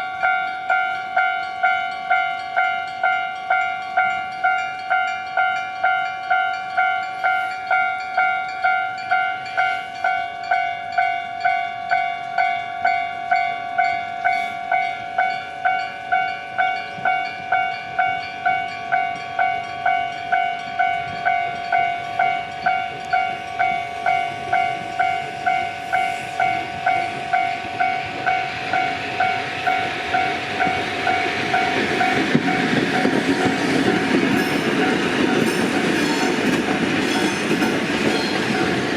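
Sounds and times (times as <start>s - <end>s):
railroad crossing bell ringing: 0.0s - 38.9s
train wheels running: 0.0s - 38.9s.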